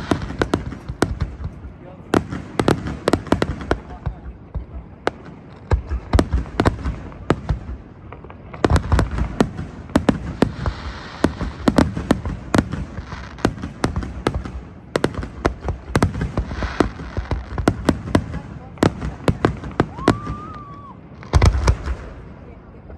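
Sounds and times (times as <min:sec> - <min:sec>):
fireworks bangs: 0:00.0 - 0:22.9.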